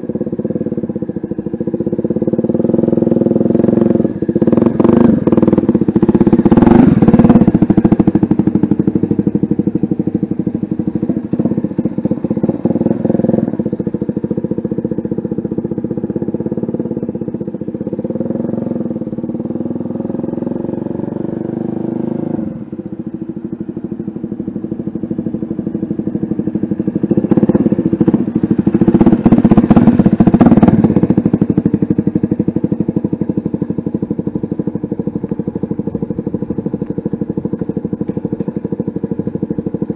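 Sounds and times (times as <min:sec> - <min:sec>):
motorcycle engine riding past: 0:00.0 - 0:39.9.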